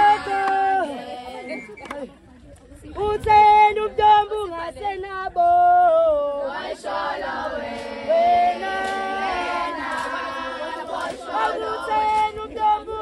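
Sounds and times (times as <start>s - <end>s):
women singing together: 0.0s - 2.1s, 3.0s - 13.0s.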